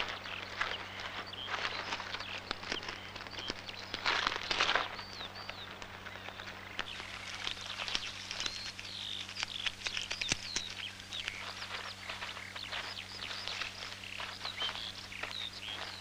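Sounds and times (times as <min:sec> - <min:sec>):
light crackles: 0:00.0 - 0:16.0
small birds chirping: 0:00.0 - 0:16.0
steady low hum: 0:00.0 - 0:16.0.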